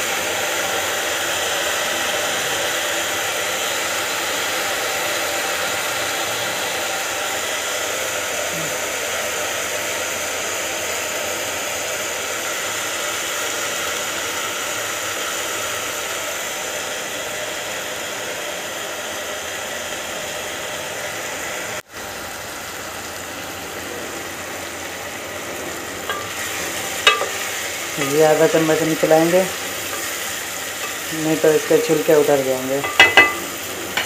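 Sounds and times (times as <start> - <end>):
lentils and onions sizzling in a pot: 0.0 - 34.0.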